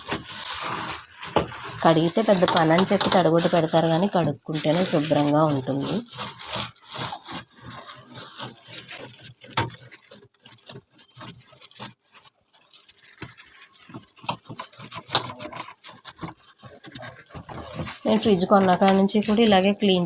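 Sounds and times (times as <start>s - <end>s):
plastic bag scrubbing plastic: 0.0s - 20.0s.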